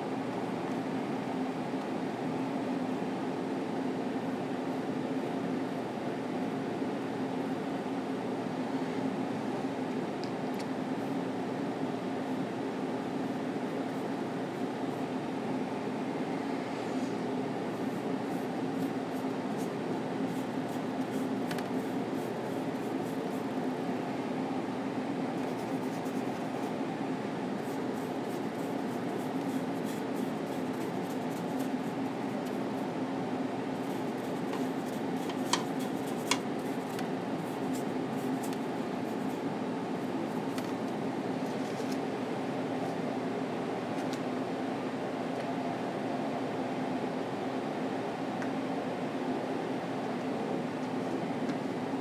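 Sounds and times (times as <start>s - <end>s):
fan hum: 0.0s - 52.0s.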